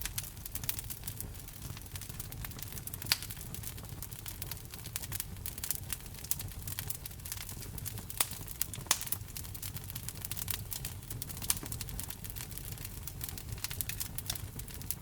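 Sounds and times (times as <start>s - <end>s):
fire popping: 0.0s - 15.0s
logs crackling in fire: 0.0s - 15.0s
low rumble of fire: 0.0s - 15.0s.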